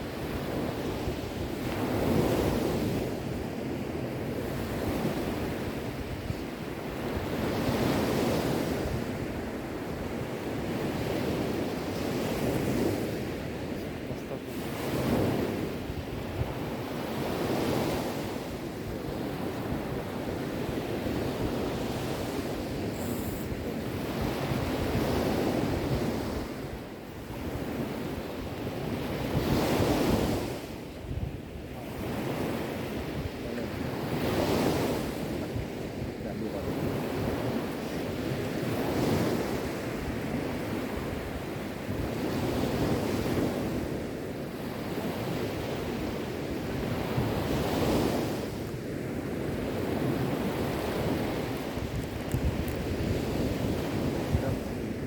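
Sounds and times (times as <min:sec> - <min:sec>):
sea waves breaking on shore: 0:00.0 - 0:55.0
wind noise on microphone: 0:00.0 - 0:55.0.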